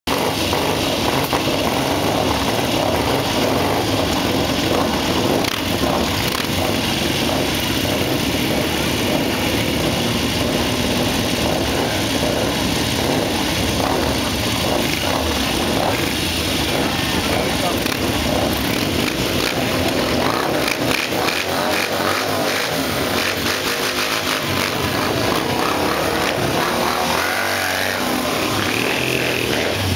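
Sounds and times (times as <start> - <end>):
motorcycle engines idling: 0.1 - 29.9.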